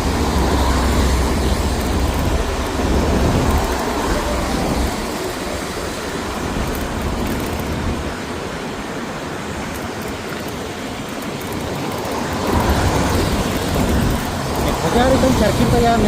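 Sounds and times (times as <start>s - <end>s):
bicycle tyres hissing on wet road: 0.0s - 16.0s
heavy rain: 0.0s - 16.0s.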